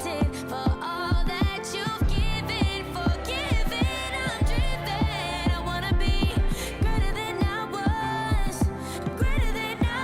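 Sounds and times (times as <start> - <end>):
song with singing voice: 0.0 - 10.0
steady drum beat: 0.7 - 10.0.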